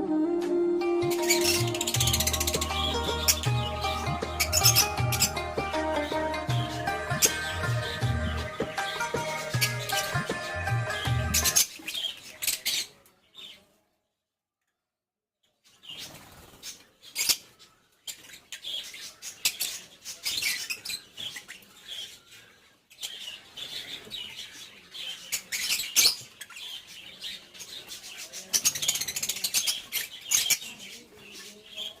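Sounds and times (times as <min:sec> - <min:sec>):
lovebirds chirping and calling: 0:00.8 - 0:13.8, 0:15.6 - 0:32.0.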